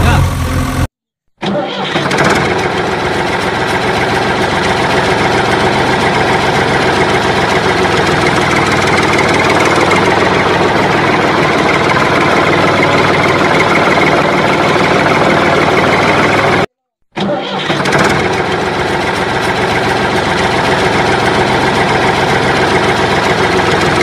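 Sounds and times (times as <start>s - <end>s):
vehicle engine idling: 0.0s - 0.9s, 2.5s - 16.7s, 18.2s - 24.0s.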